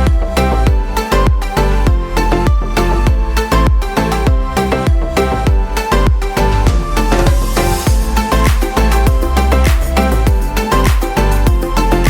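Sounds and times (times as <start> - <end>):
deep bass kicks: 0.0 - 12.0
pitched melody: 0.0 - 12.0.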